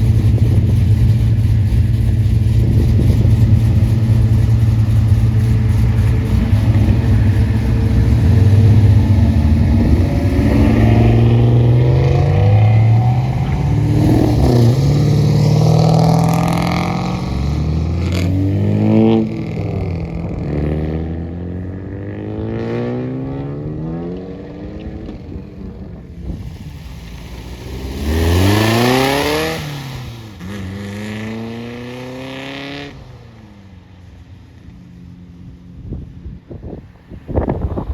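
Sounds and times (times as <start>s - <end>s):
car engine revving: 0.0s - 33.1s.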